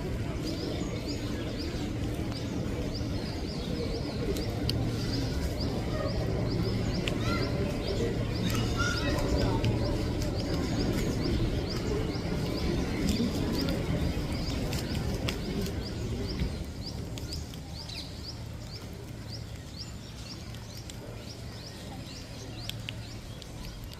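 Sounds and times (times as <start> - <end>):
outdoor background murmur: 0.0 - 23.9.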